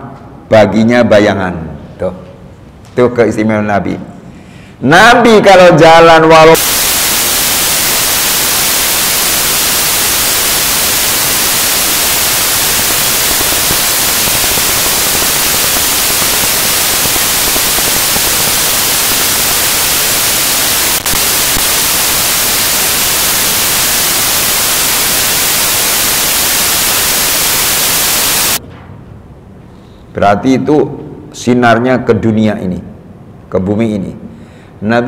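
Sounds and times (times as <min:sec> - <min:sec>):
loud static hiss: 0:04.4 - 0:34.8.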